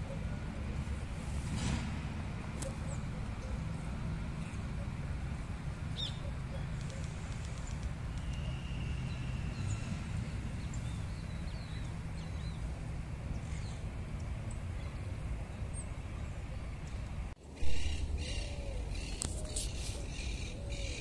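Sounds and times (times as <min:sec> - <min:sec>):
birds chirping: 0:02.4 - 0:21.0.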